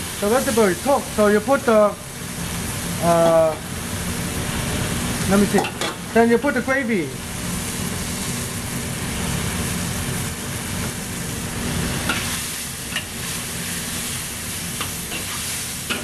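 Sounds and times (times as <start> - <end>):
vegetables sizzling in a wok: 0.0 - 16.0.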